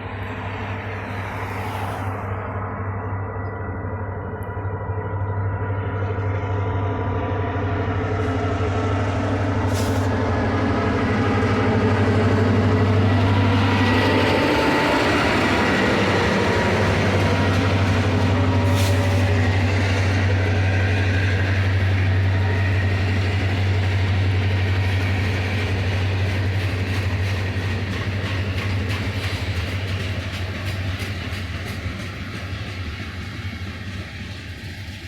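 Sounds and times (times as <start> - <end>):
locomotive engine drone: 0.0 - 35.0.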